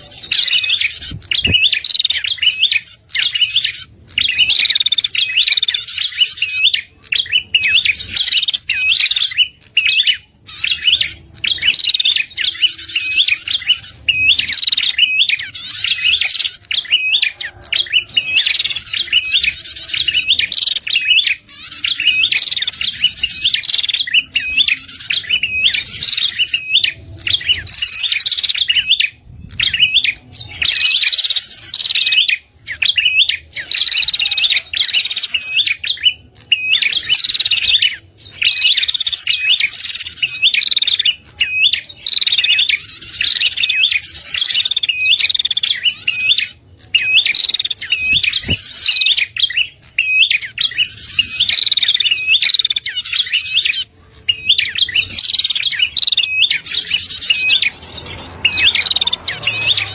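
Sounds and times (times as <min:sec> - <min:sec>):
bird rapid high chirping: 0:00.0 - 0:59.9.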